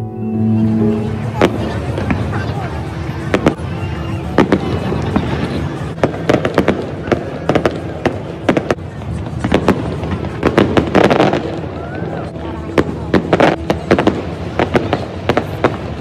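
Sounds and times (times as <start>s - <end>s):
fireworks bangs: 1.0s - 16.0s.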